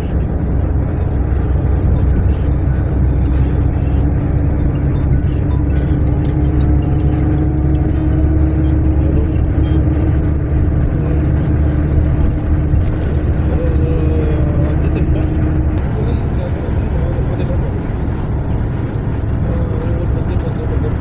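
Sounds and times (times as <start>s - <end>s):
bus engine and road rumble: 0.0s - 21.0s
steady hum: 0.0s - 21.0s.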